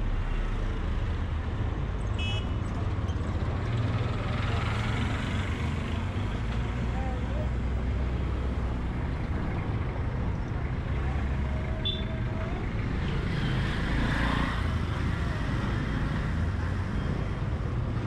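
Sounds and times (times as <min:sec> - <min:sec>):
low traffic rumble: 0:00.0 - 0:18.0
tuk-tuk engine: 0:00.0 - 0:18.0
passing car engines: 0:02.7 - 0:18.0.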